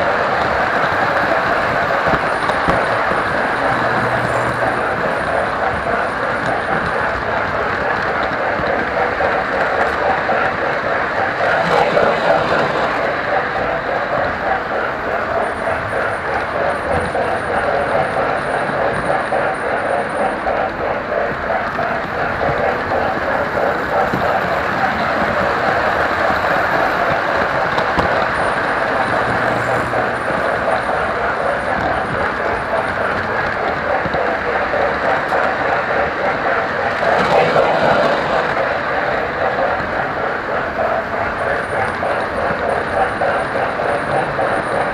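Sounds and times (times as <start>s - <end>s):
locomotive motor running: 0.0s - 44.9s
model train wheels rattling on rail: 0.0s - 44.9s.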